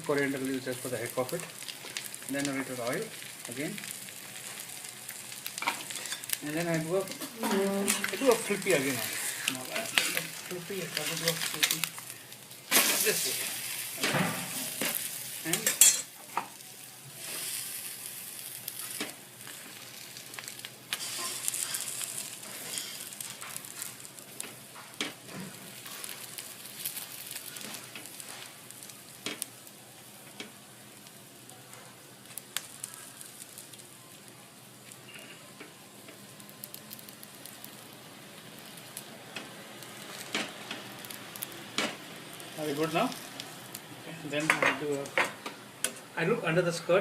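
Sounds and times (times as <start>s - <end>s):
buns sizzling in oil: 0.0s - 47.0s.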